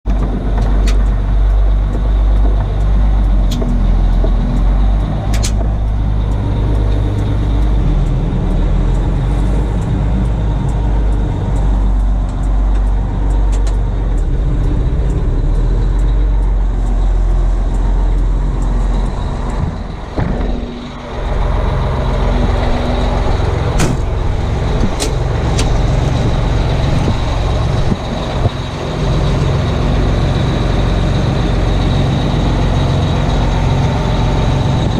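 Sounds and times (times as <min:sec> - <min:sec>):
diesel engine running loudly: 0:00.0 - 0:34.9
sharp clicks: 0:00.1 - 0:28.6.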